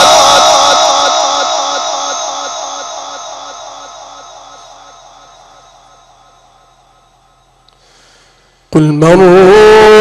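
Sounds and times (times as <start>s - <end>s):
echo of reciting voice: 0.0s - 10.0s
sound system hum and hiss: 0.0s - 10.0s.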